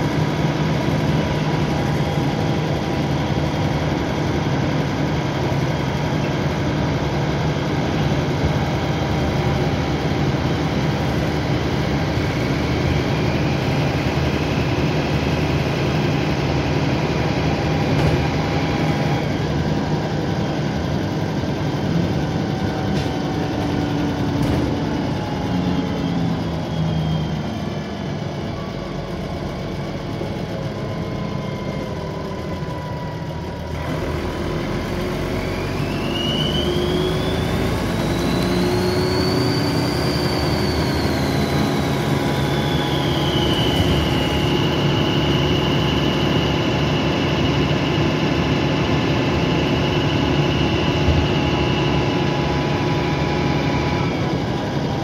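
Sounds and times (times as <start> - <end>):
bus engine running: 0.0 - 55.0
turbocharger whine: 0.0 - 55.0.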